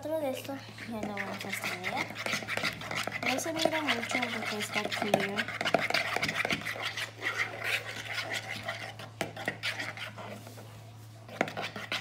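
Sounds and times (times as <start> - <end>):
spoon scraping plastic bowl: 0.7 - 12.0.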